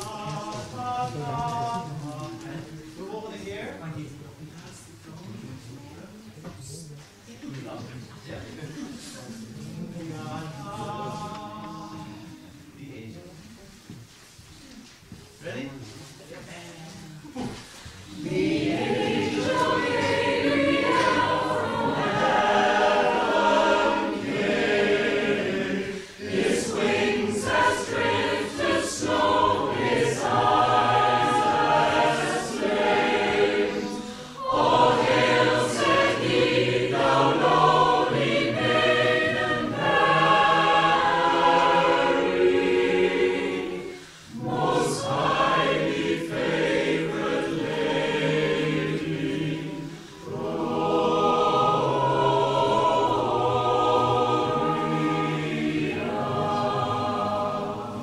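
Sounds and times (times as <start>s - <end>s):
mixed choir singing: 0.0s - 3.4s, 8.8s - 13.0s, 17.2s - 58.0s.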